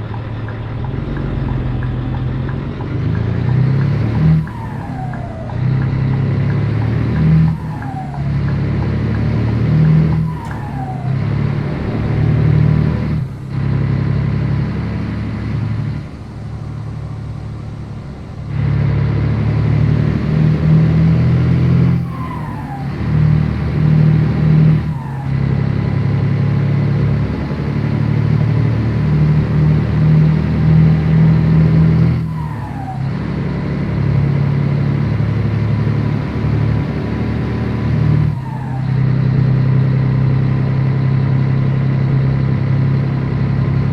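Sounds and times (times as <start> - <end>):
truck diesel engine under load: 0.0 - 43.9.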